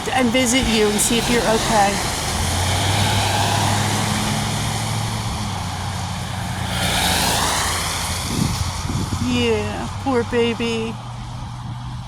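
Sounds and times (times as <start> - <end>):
road hiss: 0.0 - 12.0
traffic engine hum: 0.0 - 12.0
vehicle passing by: 0.0 - 12.0.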